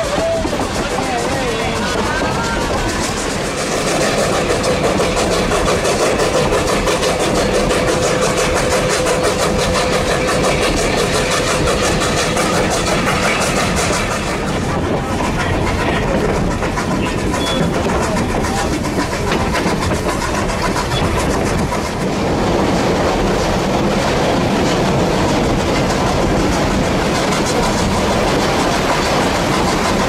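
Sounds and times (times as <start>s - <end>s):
steam locomotive chugging: 0.0s - 30.0s
wheel and carriage noise: 0.0s - 30.0s.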